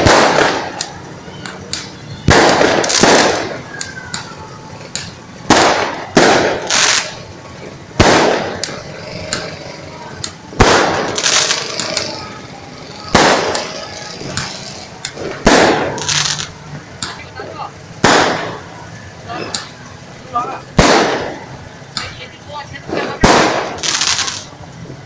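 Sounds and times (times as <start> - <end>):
small fireworks pops: 0.0 - 19.9, 20.6 - 25.0
fireworks bangs with crackle: 0.0 - 25.0.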